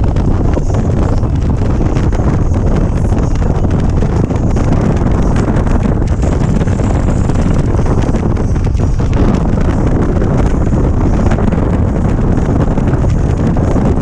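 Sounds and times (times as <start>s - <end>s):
motorcycle engine and road noise: 0.0s - 14.0s
wind rushing over microphone: 0.0s - 14.0s.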